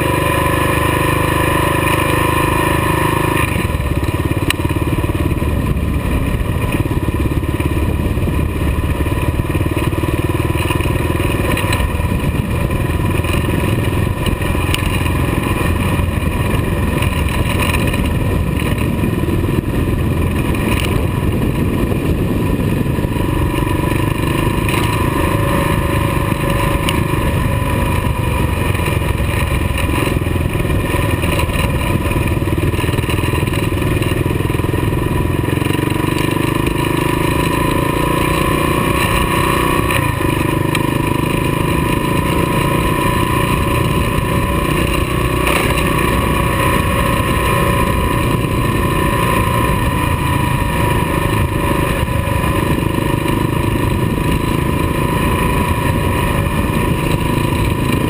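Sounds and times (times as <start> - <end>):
motorcycle engine running: 0.0 - 58.0
wind noise on microphone: 3.2 - 58.0.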